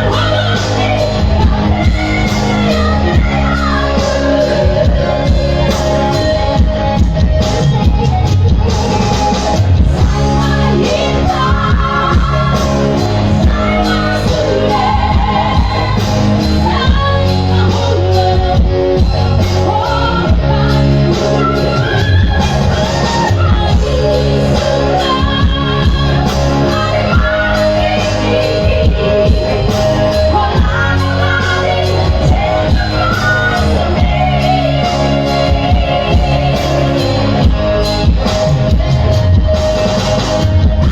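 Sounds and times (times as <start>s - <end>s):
woman singing: 0.0s - 7.3s, 8.7s - 38.3s
band accompaniment: 0.0s - 40.9s.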